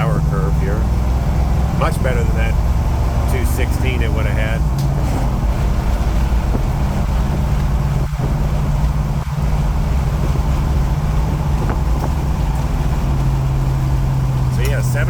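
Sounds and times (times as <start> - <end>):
road and wind noise: 0.0 - 15.0
truck engine cruising: 0.0 - 15.0.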